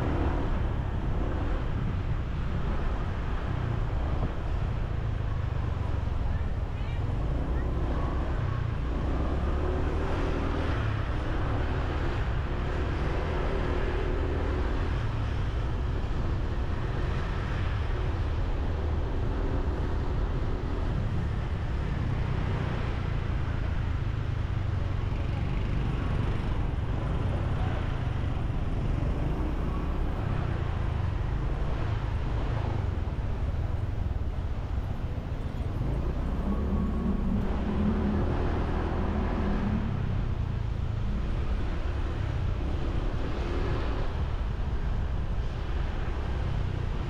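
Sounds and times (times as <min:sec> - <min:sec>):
motorbike engine and road noise: 0:00.0 - 0:47.0
surrounding traffic: 0:00.0 - 0:47.0.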